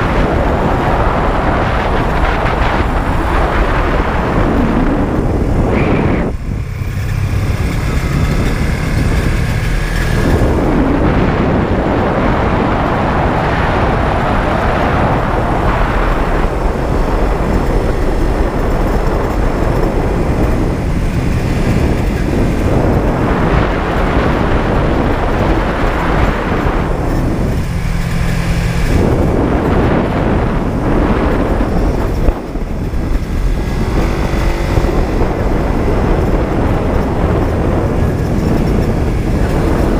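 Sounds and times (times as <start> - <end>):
motorcycle engine running: 0.0 - 39.9
rushing wind: 0.0 - 39.9.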